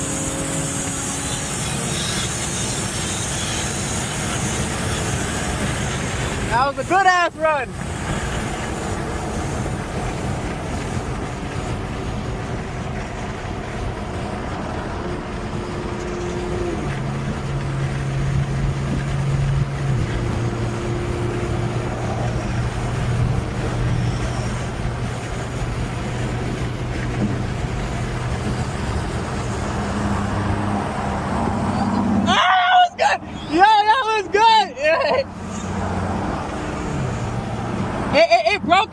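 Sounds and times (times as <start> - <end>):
car engine humming: 0.0 - 38.9
road and tyre noise: 0.0 - 38.9.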